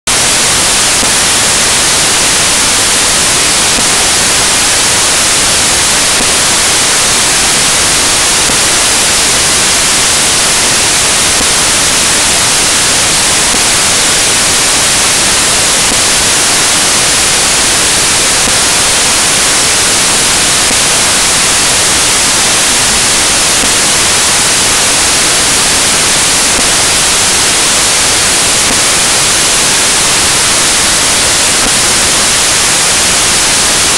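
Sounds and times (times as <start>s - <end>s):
static hiss: 0.0s - 33.9s.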